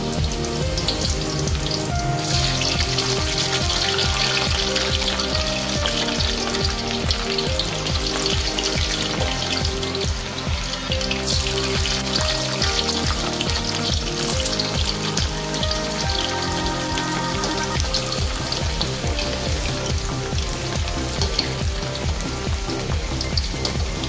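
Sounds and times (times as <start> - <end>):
background music with bass line: 0.0 - 24.0
potatoes deep-frying in oil: 0.0 - 24.0.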